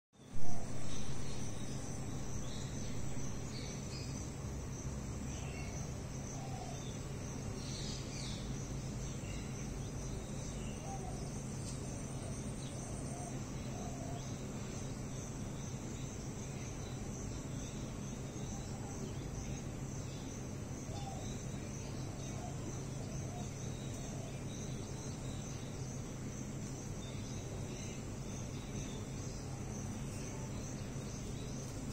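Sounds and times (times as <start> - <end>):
insects trilling: 0.2 - 31.9
low steady hum: 0.2 - 31.9.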